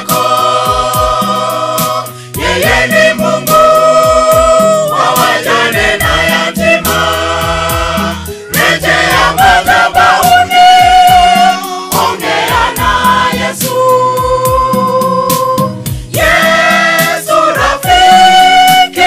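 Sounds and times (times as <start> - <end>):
choir singing gospel song: 0.0 - 19.0
steady beat: 0.0 - 19.0.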